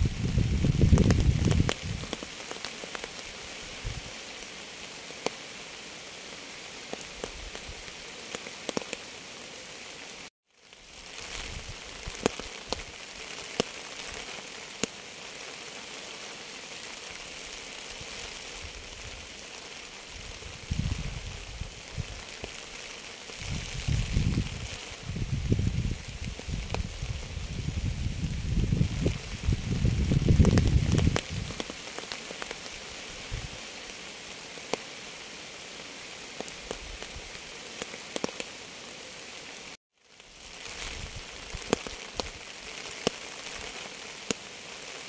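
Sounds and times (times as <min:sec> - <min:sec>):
steady rain hiss: 0:00.0 - 0:45.0
raindrops ticking on a surface: 0:00.1 - 0:09.2, 0:10.5 - 0:38.6, 0:39.2 - 0:45.0.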